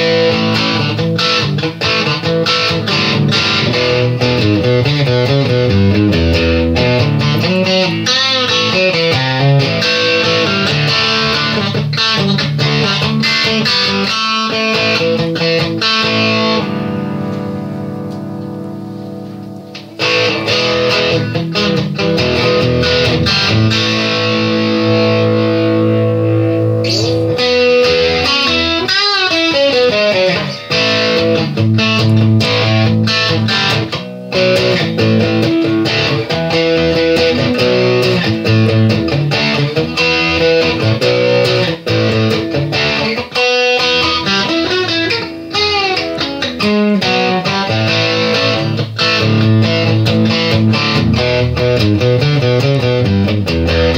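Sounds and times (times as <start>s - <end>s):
electric guitar melody with effects: 0.0s - 53.9s.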